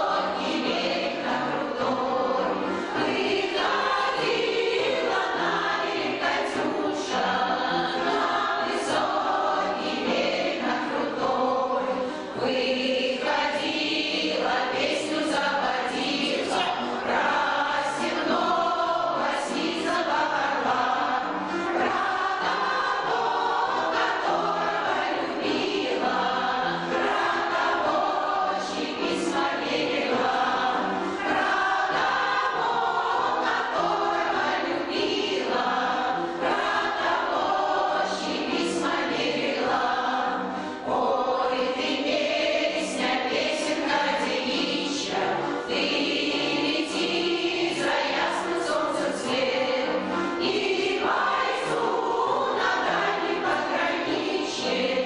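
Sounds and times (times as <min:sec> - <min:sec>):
choir singing folk song: 0:00.0 - 0:55.0.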